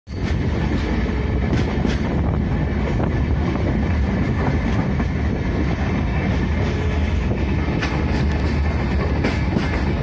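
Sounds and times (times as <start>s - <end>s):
train rumbling on track: 0.1s - 10.0s
wind buffeting microphone: 0.2s - 10.0s.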